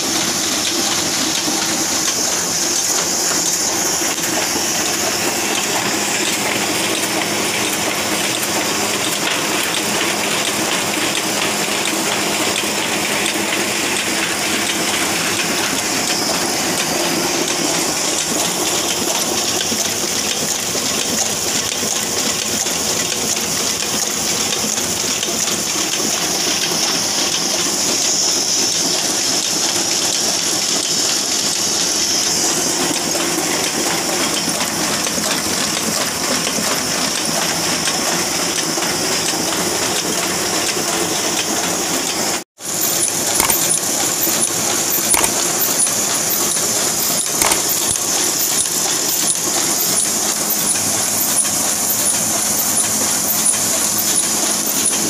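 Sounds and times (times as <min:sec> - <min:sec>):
printing press clatter and hiss: 0:00.0 - 0:55.0.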